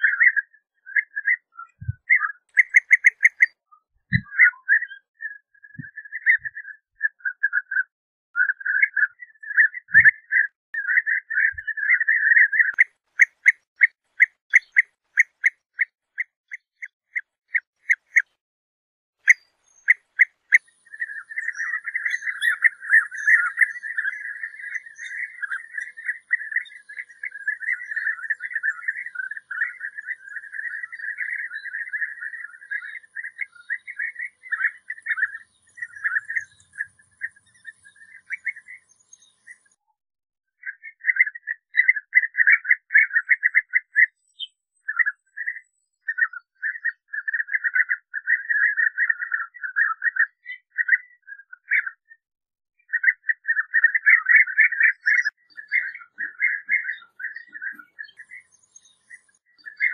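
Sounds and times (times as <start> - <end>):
bird trilled calls: 0.0 - 18.3, 19.2 - 39.8, 40.6 - 52.1, 52.8 - 59.9.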